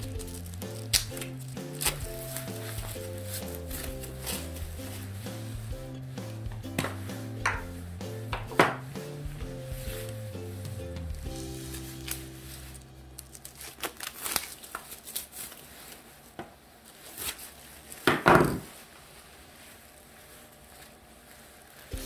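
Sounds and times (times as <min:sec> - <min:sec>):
plastic wrapping crinkling: 0:00.0 - 0:08.9, 0:09.7 - 0:22.0.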